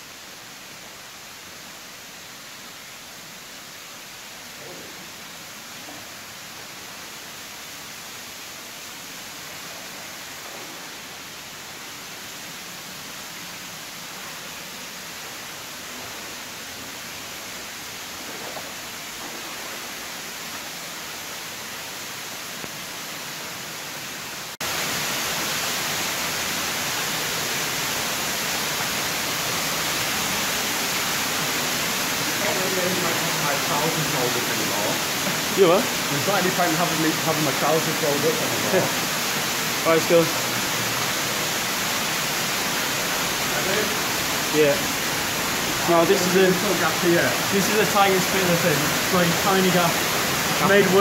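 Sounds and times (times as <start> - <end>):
running water rushing: 0.0 - 51.0.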